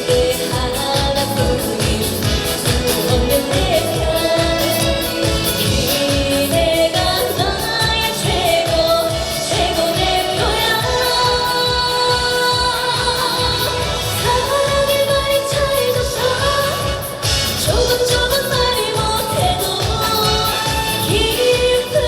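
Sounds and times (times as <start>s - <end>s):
backing track with steady beat: 0.0s - 22.0s
woman singing with vibrato: 0.0s - 22.0s.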